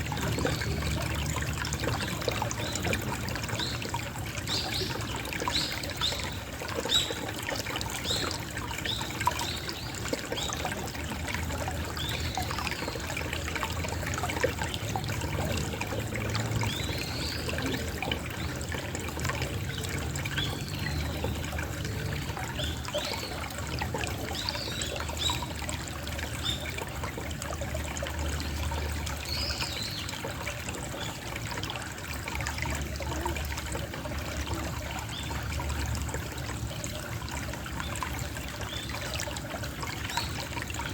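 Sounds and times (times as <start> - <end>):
stream trickling and gurgling: 0.0 - 40.9.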